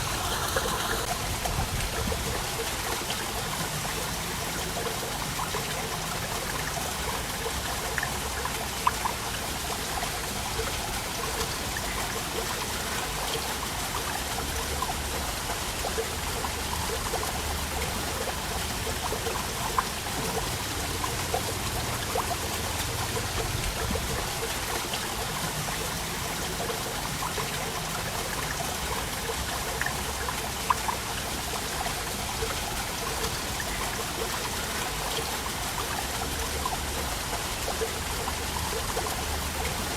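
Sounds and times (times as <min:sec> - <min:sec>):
water splashing and dripping: 0:00.0 - 0:39.9
waterfall rushing: 0:00.0 - 0:39.9.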